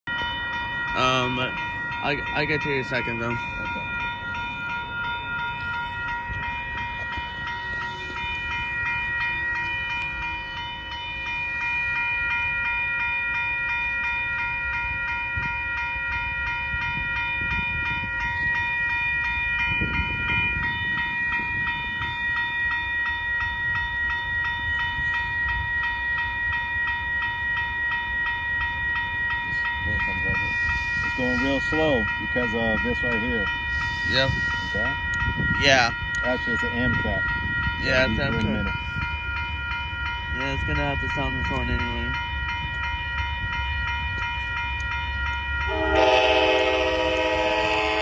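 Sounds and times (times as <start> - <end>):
crossing warning bell ringing: 0.0 - 48.0.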